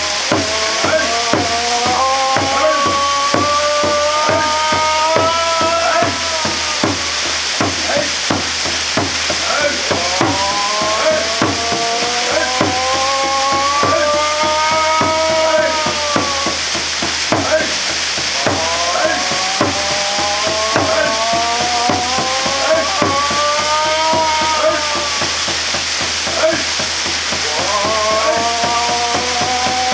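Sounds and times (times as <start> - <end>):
long wavering held tones: 0.0 - 29.9
waterfall rushing and splashing: 0.0 - 29.9.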